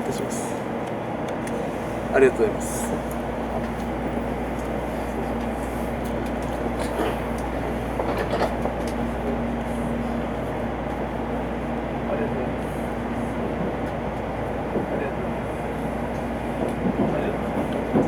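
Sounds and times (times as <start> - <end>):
train running noise: 0.0 - 18.0.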